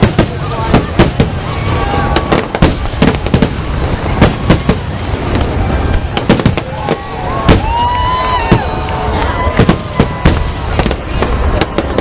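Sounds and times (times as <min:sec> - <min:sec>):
fireworks bangs: 0:00.0 - 0:12.0
fireworks whistle: 0:00.0 - 0:12.0.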